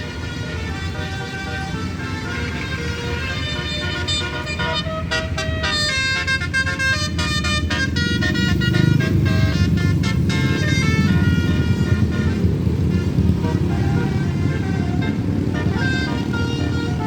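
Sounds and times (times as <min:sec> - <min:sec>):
bus engine rumbling: 0:00.0 - 0:17.0
bus musical horn playing a tune: 0:00.0 - 0:17.0.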